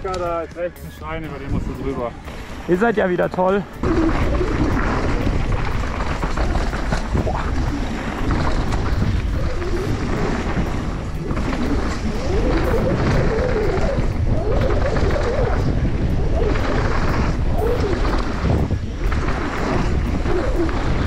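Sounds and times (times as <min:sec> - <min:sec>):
tyres rattling over dirt and stones: 0:00.0 - 0:21.0
wind buffeting microphone: 0:00.0 - 0:21.0.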